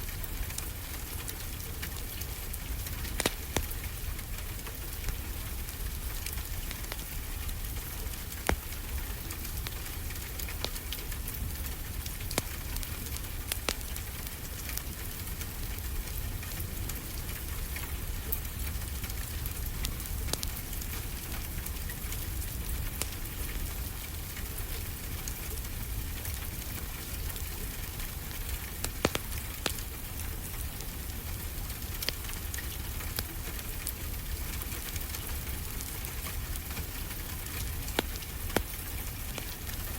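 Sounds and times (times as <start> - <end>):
steady rain hiss: 0.0 - 39.9
wood fire crackling and popping: 0.0 - 39.9.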